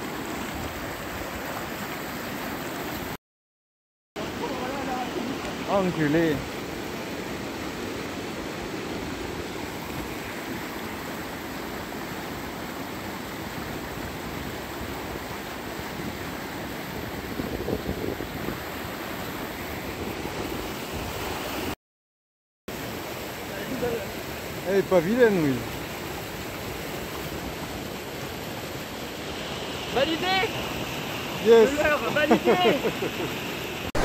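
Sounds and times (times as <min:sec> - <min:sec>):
river water rushing through rapids: 0:00.0 - 0:03.2, 0:04.2 - 0:17.4, 0:22.7 - 0:34.0.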